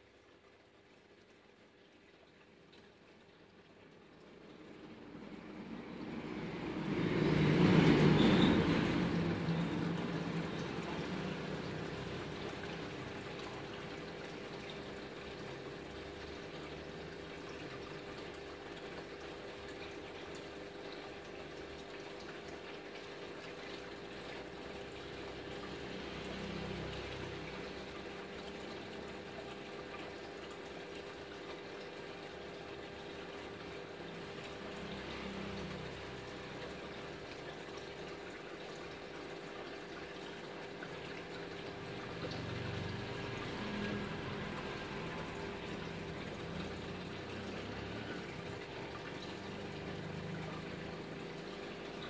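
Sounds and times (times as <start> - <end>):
pump humming: 0.0 - 52.0
water trickling: 0.0 - 52.0.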